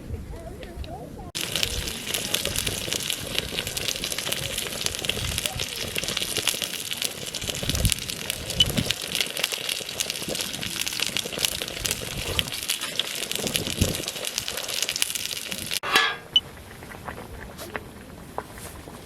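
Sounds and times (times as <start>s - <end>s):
wood fire crackling and popping: 1.4s - 17.8s.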